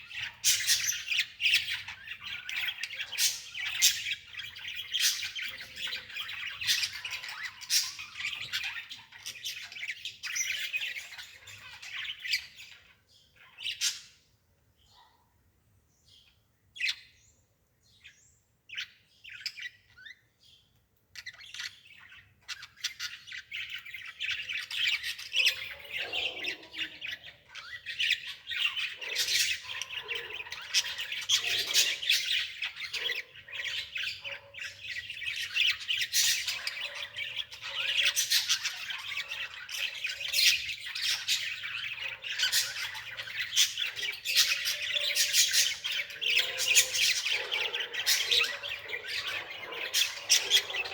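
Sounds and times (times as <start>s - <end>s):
birds chirping and squawking: 0.0s - 15.3s, 16.1s - 50.9s.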